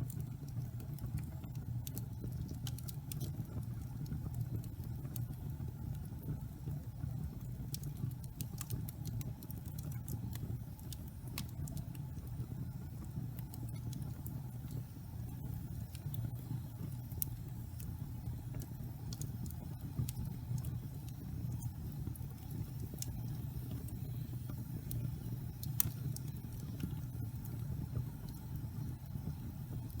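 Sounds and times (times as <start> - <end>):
fire burning rumble: 0.0 - 30.0
fire crackles and pops: 0.0 - 30.0.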